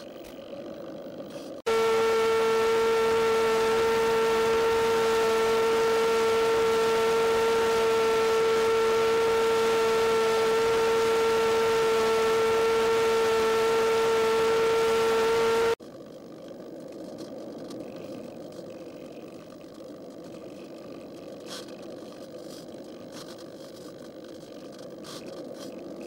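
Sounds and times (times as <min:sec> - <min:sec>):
model plane motor humming: 0:00.0 - 0:26.0.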